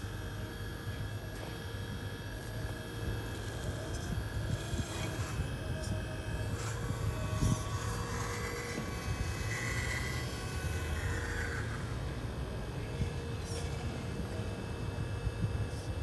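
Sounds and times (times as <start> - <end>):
electric motors whirring: 0.0 - 16.0
higher whine: 0.0 - 16.0.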